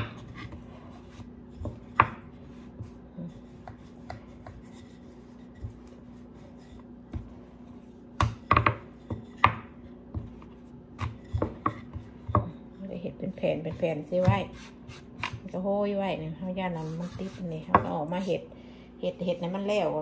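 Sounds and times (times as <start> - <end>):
rolling pin rolling dough: 0.0 - 18.4.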